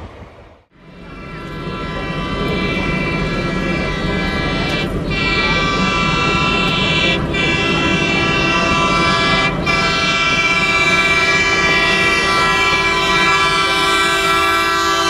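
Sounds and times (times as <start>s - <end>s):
locomotive air horn: 0.7s - 15.0s.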